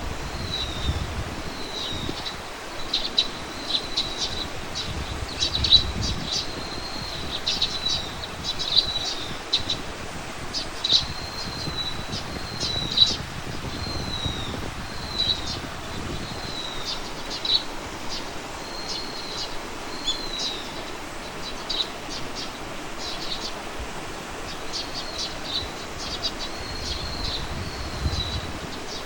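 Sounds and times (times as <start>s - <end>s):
small birds chirping: 0.3s - 29.0s.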